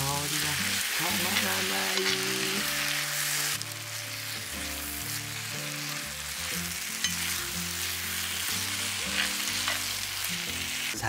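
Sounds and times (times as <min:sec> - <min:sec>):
rice sizzling in a skillet: 0:00.0 - 0:11.0
soft background music: 0:00.0 - 0:11.0.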